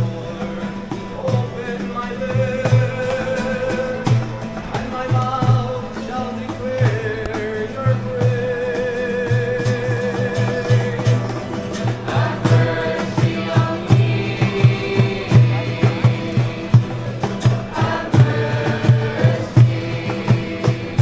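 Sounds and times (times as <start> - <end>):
song with singing over a beat: 0.0 - 21.0.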